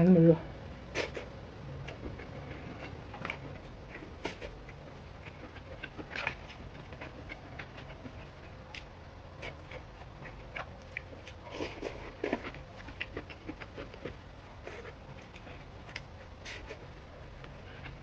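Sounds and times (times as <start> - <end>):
person chewing: 0.8 - 18.0.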